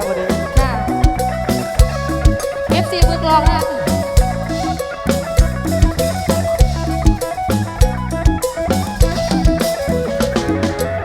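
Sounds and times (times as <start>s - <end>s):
drum kit beat: 0.0s - 11.0s
electric bass and guitar: 0.0s - 11.0s.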